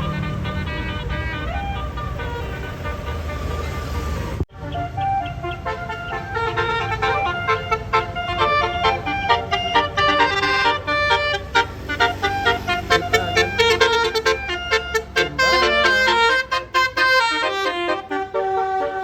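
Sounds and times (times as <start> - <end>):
bus engine rumble: 0.0 - 19.0
musical bus horn playing a tune: 0.0 - 19.0.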